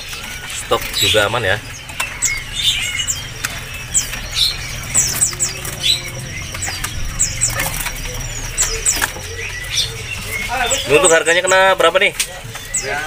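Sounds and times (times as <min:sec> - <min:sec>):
steady low hum: 0:00.0 - 0:11.0
songbirds chirping: 0:00.0 - 0:13.0
wings fluttering: 0:00.0 - 0:13.0.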